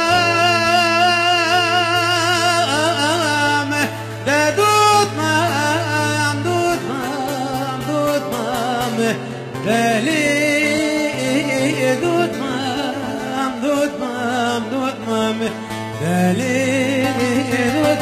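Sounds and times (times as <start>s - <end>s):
man singing with vibrato: 0.0s - 18.0s.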